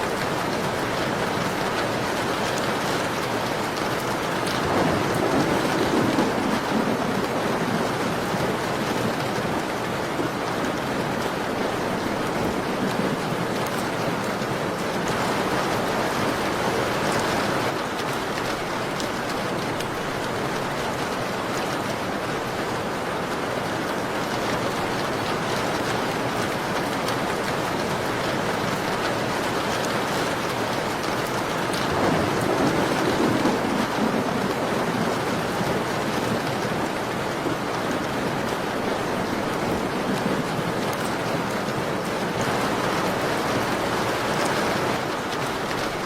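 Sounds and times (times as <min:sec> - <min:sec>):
rain pattering on window glass: 0:00.0 - 0:46.0.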